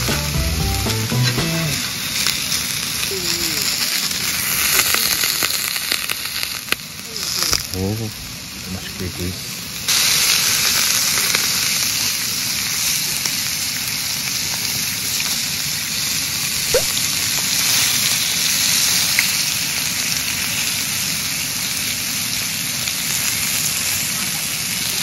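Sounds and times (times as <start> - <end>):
meat sizzling on grill pan: 0.0 - 25.0.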